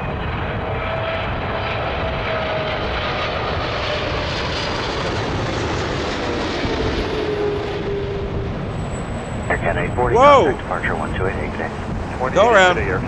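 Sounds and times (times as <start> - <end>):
jet engines rushing with whine: 0.0 - 13.0
strong gusty wind rumble: 0.0 - 13.0.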